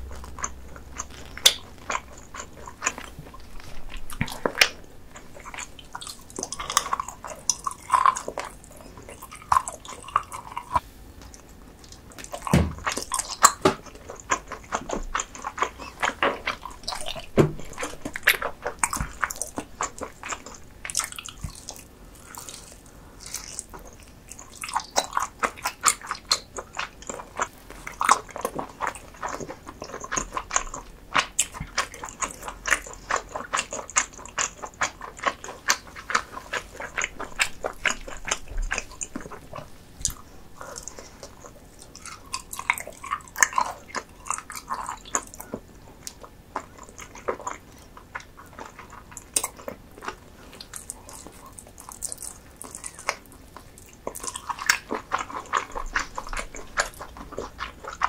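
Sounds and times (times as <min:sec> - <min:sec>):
mouth clicks and smacks: 0:00.0 - 0:58.0
person chewing food: 0:00.0 - 0:58.0.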